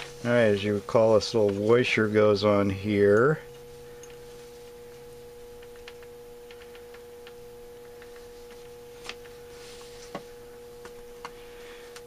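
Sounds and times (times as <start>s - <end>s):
steady high hum: 0.0s - 12.0s.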